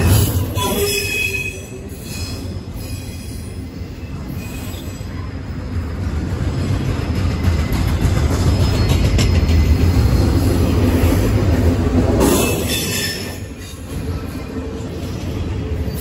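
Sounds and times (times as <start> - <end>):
train wheels squealing on rail: 0.0 - 11.3, 12.2 - 16.0
freight train wheels rolling: 0.0 - 16.0.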